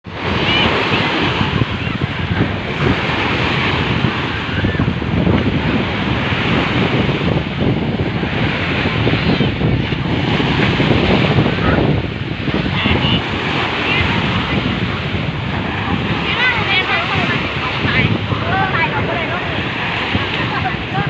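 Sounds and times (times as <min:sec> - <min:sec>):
sea waves washing onto beach: 0:00.1 - 0:21.0
wind buffeting microphone: 0:00.1 - 0:21.0.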